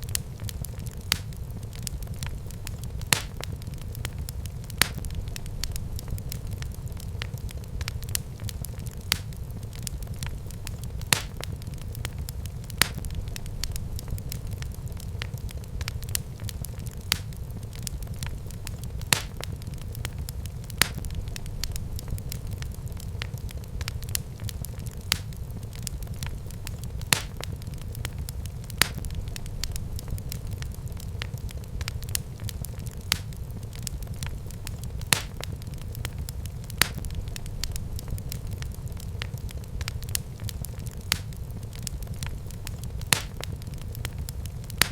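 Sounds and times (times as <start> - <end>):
fire popping and crackling: 0.0 - 44.9
low rumble of flames: 0.0 - 44.9.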